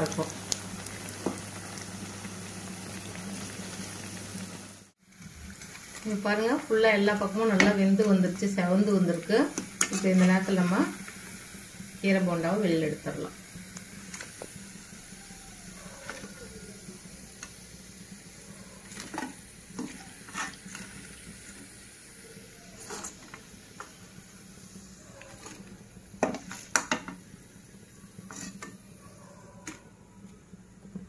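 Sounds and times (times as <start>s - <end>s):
oil sizzling: 0.0s - 31.0s.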